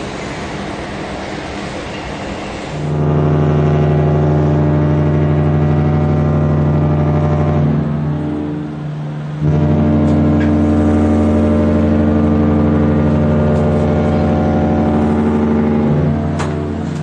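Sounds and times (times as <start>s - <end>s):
ship horn blast: 2.7s - 17.0s.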